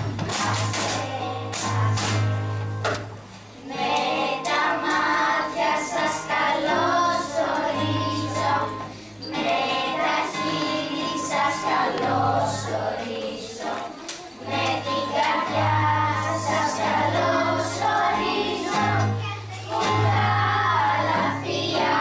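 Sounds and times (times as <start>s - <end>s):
children's choir singing: 0.0s - 2.8s, 3.6s - 22.0s
percussion: 0.0s - 22.0s.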